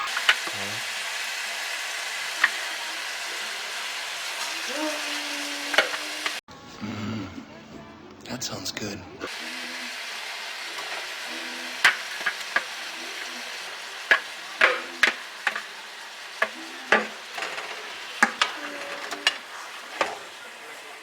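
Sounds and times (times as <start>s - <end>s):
chicken sizzling in a pan: 0.0s - 6.4s, 9.3s - 21.0s
utensil scraping a pan: 0.0s - 6.4s, 9.3s - 21.0s.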